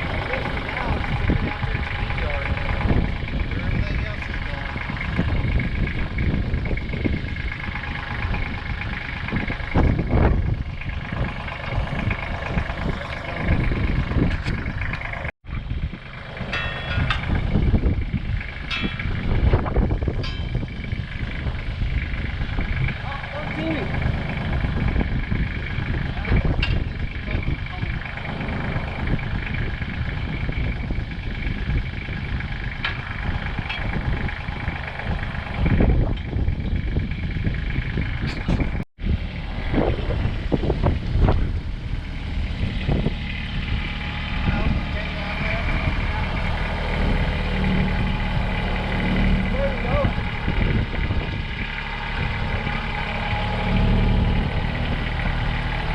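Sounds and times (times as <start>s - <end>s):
excavator engine whining: 0.0s - 55.9s.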